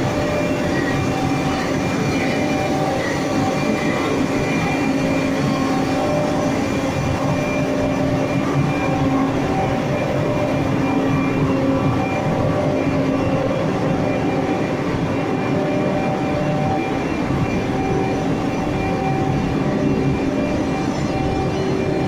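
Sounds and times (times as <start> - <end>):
woodworking machinery running: 0.0 - 22.0.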